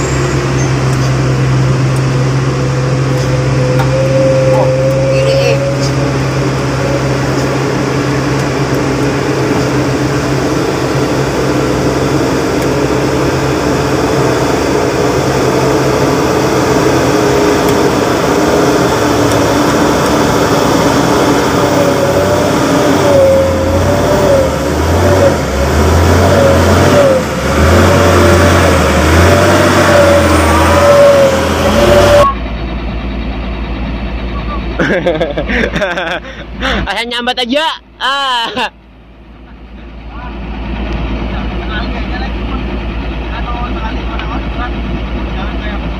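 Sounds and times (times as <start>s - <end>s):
diesel truck engines droning: 0.0s - 45.9s
truck engine whine and rumble: 0.0s - 45.9s.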